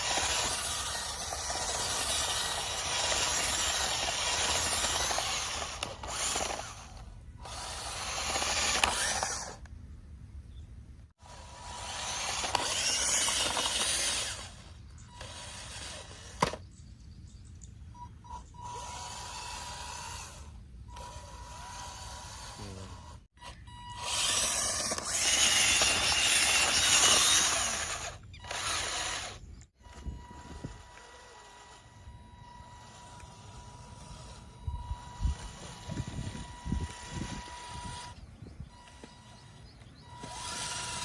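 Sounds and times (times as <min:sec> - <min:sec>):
small electric motor running: 0:00.0 - 0:09.7, 0:11.2 - 0:16.7, 0:18.2 - 0:41.0.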